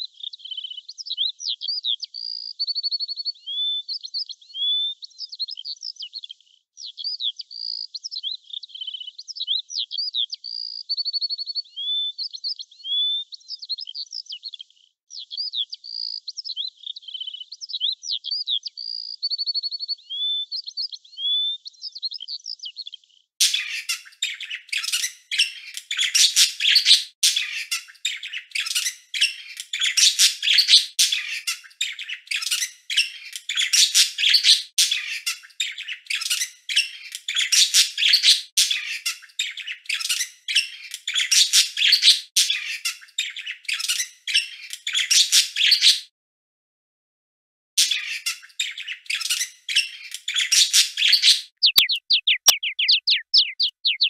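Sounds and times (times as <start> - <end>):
songbirds chirping: 0.0 - 46.0, 47.8 - 54.0.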